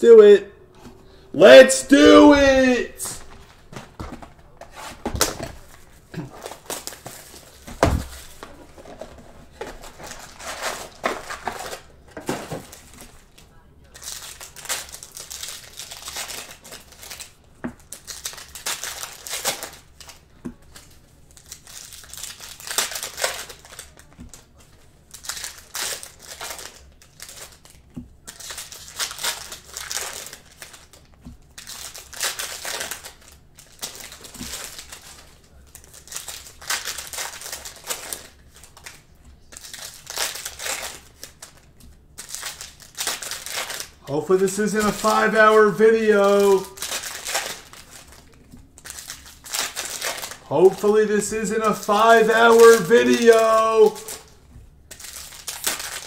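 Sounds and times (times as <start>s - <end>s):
plastic wrappers crinkling: 2.6s - 56.0s.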